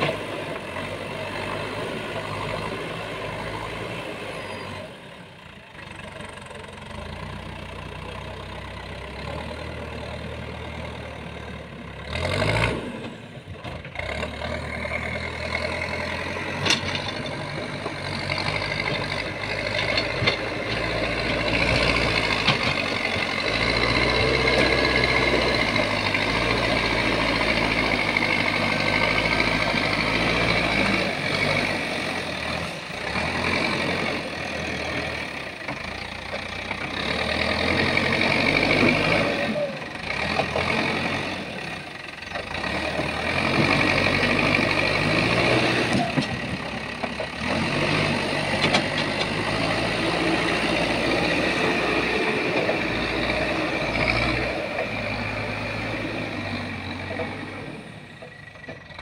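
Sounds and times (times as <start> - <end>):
backhoe diesel engine under load: 0.0 - 59.0.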